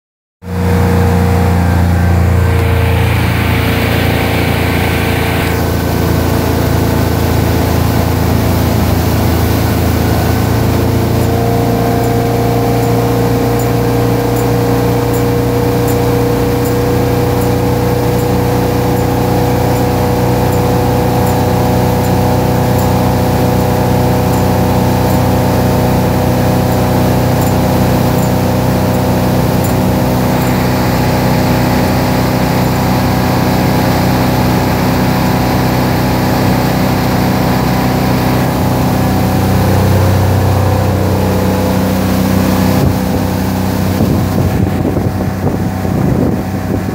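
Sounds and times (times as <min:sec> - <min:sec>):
churning wake rushing: 0:00.4 - 0:46.9
motorboat engine running: 0:00.4 - 0:46.9.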